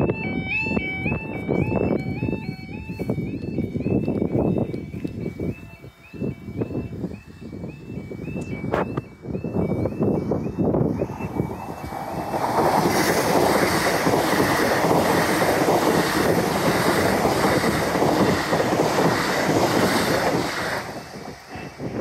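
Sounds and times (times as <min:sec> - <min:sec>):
train rushing past: 0:00.0 - 0:22.0.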